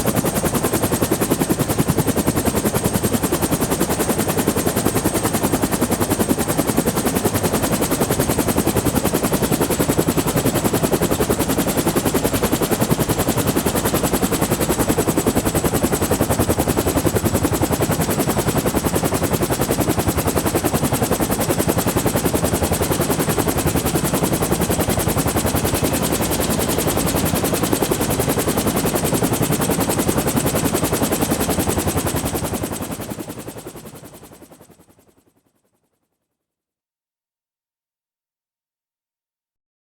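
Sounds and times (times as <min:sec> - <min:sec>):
helicopter rotor chop: 0:00.1 - 0:34.6.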